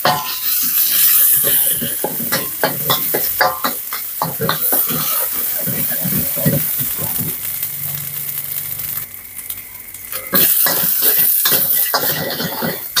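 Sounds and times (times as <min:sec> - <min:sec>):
metal spatula scraping wok: 0:00.0 - 0:08.9, 0:10.1 - 0:13.0
paste sizzling in hot oil: 0:00.0 - 0:13.0.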